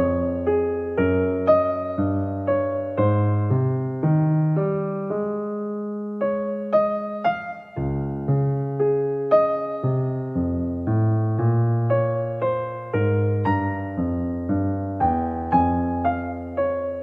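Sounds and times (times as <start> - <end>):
gentle electric piano music: 0.0 - 17.0.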